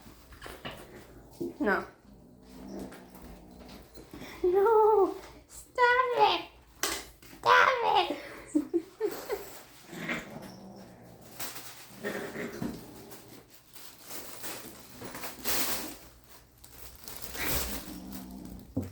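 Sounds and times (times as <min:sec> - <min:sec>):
cats rustling: 0:00.0 - 0:18.9.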